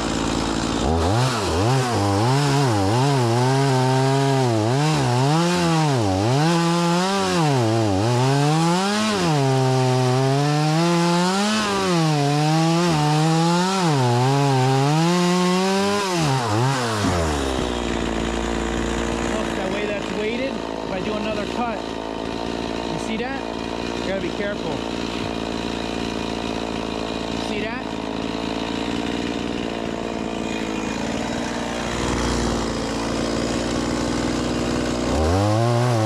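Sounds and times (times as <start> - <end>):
chainsaw cutting through log: 0.0 - 36.0.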